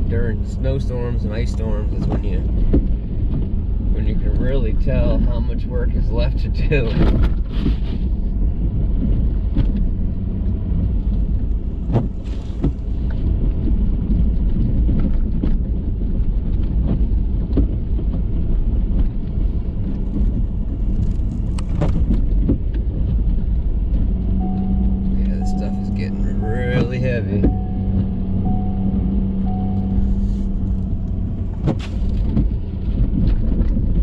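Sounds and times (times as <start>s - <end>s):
pickup truck rumbling through snow: 0.0s - 34.0s.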